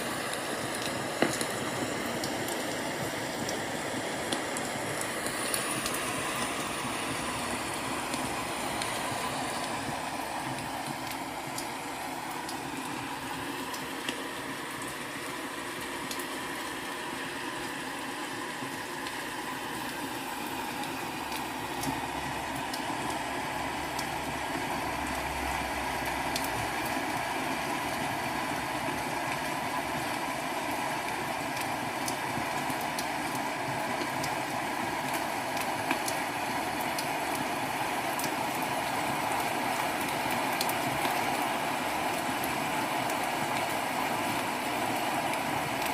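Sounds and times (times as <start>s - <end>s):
rain hiss from speaker: 0.0s - 45.9s.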